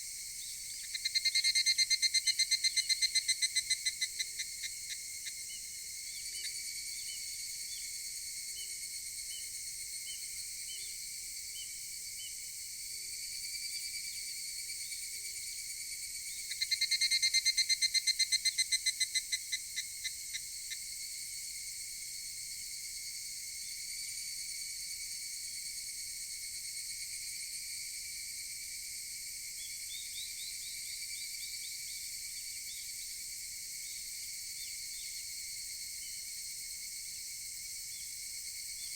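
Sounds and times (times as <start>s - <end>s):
cicada chorus: 0.0s - 38.9s
cicada pulsed call: 0.0s - 38.9s.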